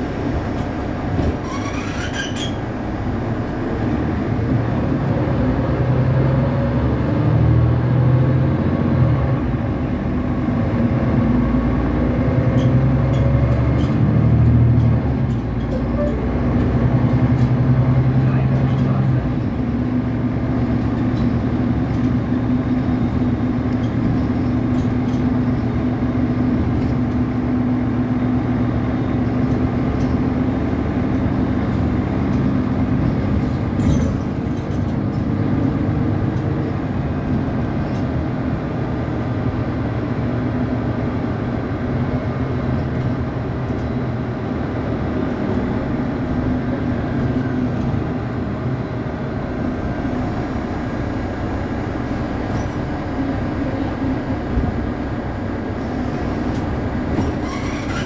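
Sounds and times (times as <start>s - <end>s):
bus engine hum: 0.0s - 58.0s
road rumble: 0.0s - 58.0s.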